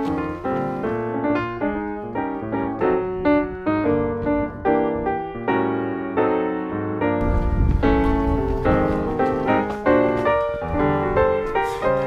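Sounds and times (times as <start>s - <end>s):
piano music single notes: 0.0s - 12.0s.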